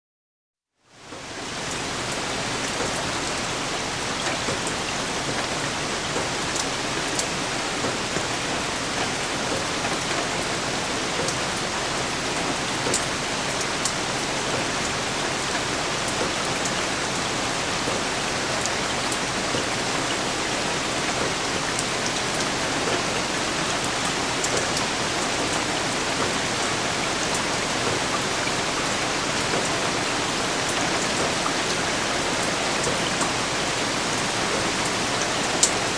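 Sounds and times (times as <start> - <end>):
steady rain hiss: 0.8 - 35.9
raindrops ticking: 1.1 - 35.9.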